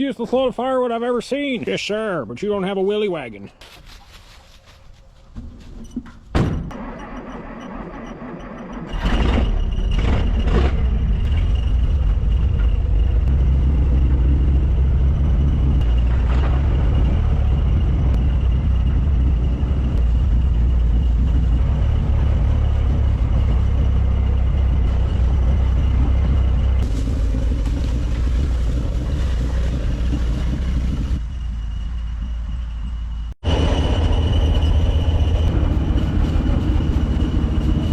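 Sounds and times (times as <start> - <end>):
car engine starting and running: 6.6 - 37.9.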